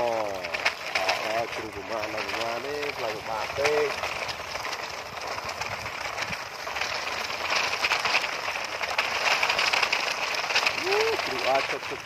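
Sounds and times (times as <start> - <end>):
toy trucks rolling over gritty dirt: 0.0 - 12.0.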